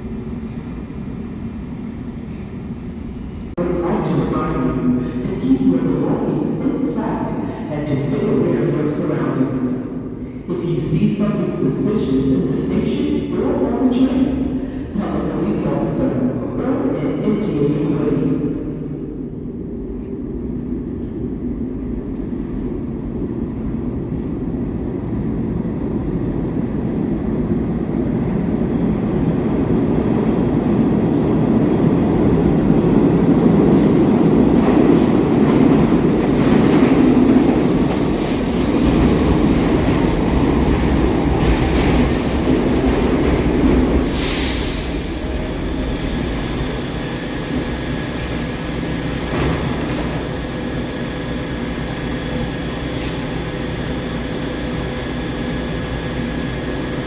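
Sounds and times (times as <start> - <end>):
subway train rail rumble: 0.0 - 57.0.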